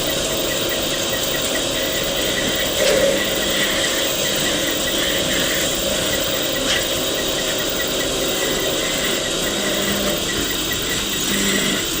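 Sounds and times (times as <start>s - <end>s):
light regular ticking: 0.0s - 12.0s
wood lathe running: 0.0s - 12.0s.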